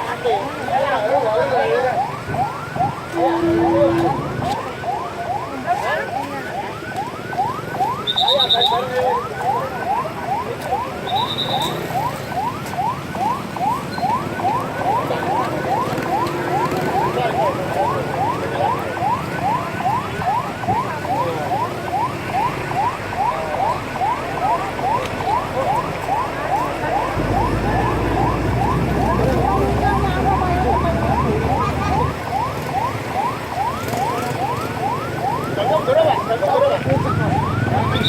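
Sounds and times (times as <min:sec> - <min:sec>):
emergency siren yelping: 0:00.0 - 0:38.0.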